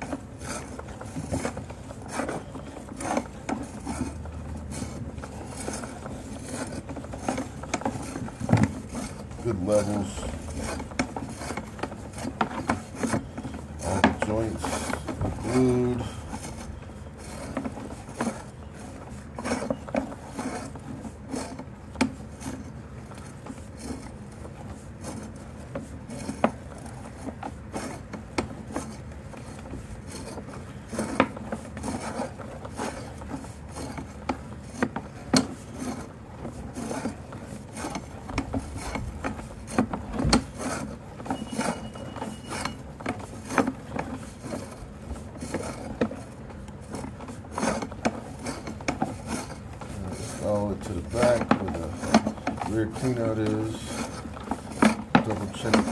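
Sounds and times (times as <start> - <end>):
cable scraping through drain pipe: 0.0 - 55.9.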